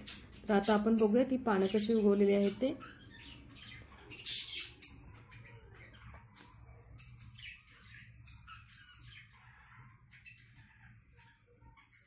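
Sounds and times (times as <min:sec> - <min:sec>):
lovebirds chirping and squawking: 0:00.0 - 0:12.0.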